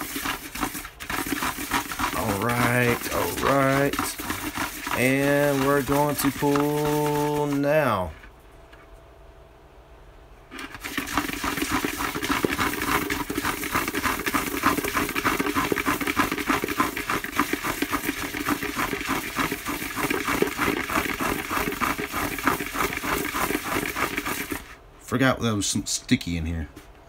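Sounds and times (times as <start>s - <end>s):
paper slips rustling in plastic bucket: 0.0s - 8.3s, 10.5s - 24.8s.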